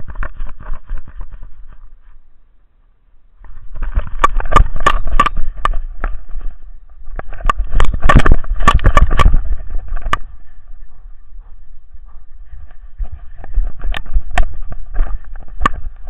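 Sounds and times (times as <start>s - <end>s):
camera knocking and rattling: 0.0s - 2.2s, 3.4s - 16.0s.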